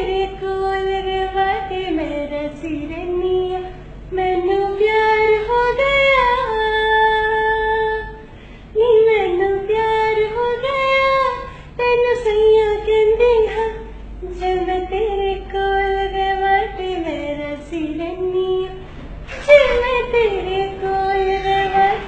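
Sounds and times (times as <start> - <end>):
woman singing unaccompanied: 0.0 - 8.2, 8.8 - 22.0.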